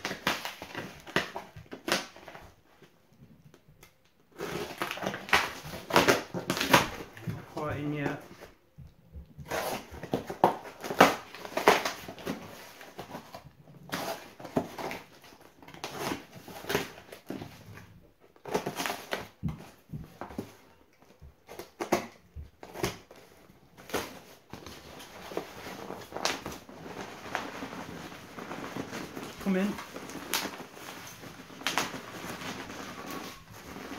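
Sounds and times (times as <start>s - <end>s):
tape and cardboard crackling: 0.0s - 33.9s.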